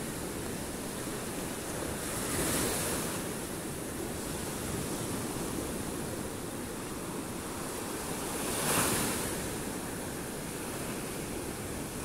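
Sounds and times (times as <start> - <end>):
surf waves breaking on beach: 0.0 - 12.0.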